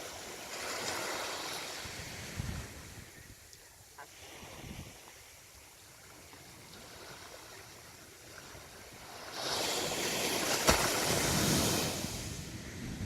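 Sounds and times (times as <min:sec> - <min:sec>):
sea waves breaking: 0:00.0 - 0:03.1, 0:04.0 - 0:13.0.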